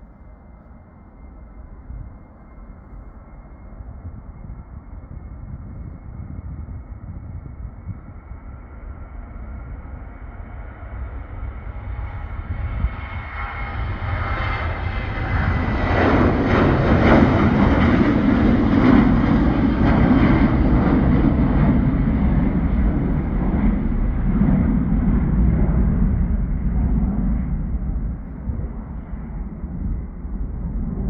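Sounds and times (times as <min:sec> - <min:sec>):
jet airliner taking off: 0:00.0 - 0:31.0.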